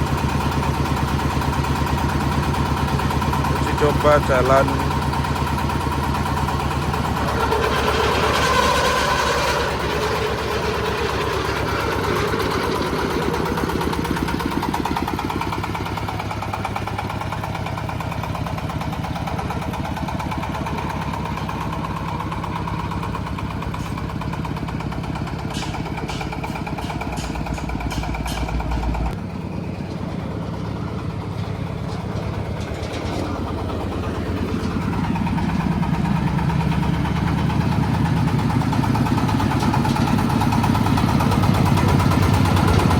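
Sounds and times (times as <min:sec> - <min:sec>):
stationary engine running: 0:00.0 - 0:42.9.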